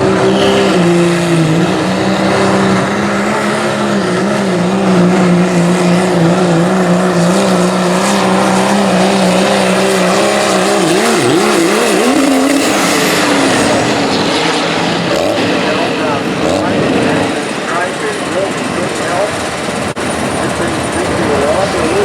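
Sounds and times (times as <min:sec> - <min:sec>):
diesel truck engine revving high: 0:00.0 - 0:22.0.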